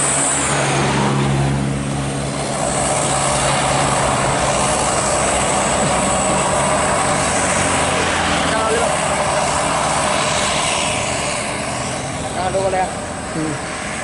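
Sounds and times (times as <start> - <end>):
tyre and road noise: 0.0 - 14.0
vehicle engine hum: 0.0 - 14.0.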